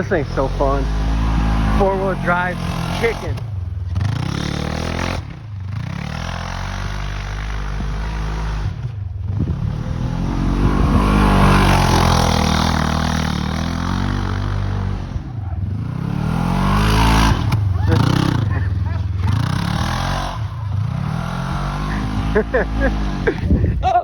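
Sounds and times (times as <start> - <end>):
vehicle engine revving: 0.0 - 23.7.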